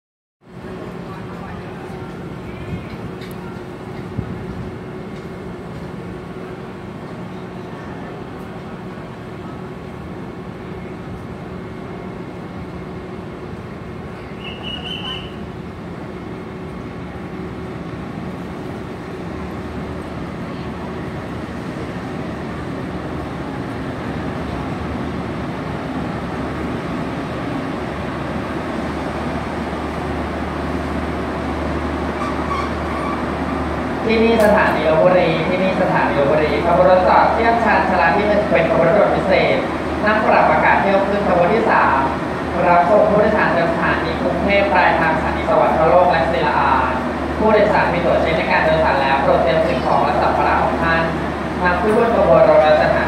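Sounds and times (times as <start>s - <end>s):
diesel train engine hum: 0.4s - 53.0s.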